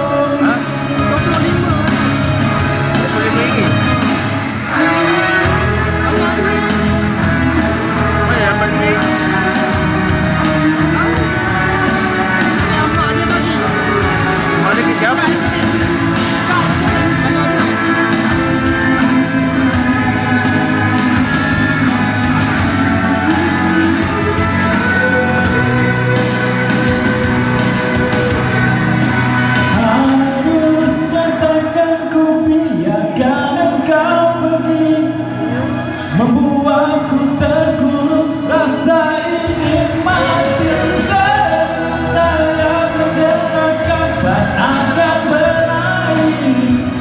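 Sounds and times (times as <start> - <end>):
live pop-rock band with singing: 0.0 - 47.0.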